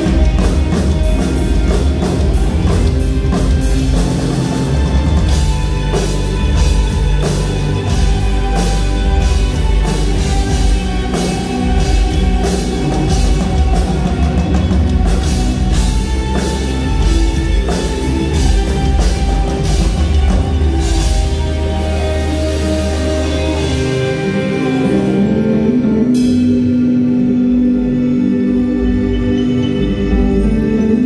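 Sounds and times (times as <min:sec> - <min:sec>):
steady drum beat: 0:00.0 - 0:26.9
rock band playing loudly: 0:00.0 - 0:31.0.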